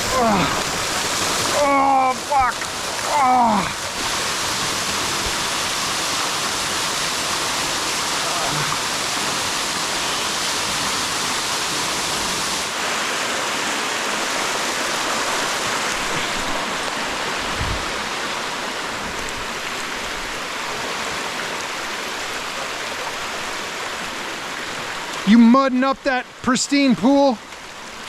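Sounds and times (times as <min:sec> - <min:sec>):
stream and waterfall rushing: 0:00.0 - 0:28.0.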